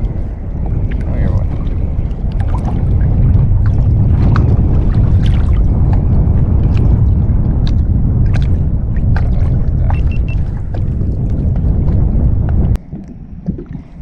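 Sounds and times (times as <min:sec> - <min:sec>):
water sloshing and splashing: 0:00.0 - 0:14.0
wind on microphone: 0:00.0 - 0:14.0.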